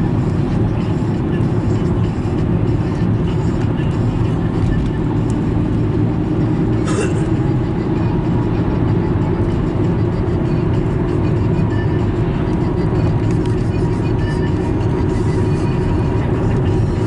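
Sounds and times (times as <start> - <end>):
road and engine rumble in car: 0.0 - 17.0.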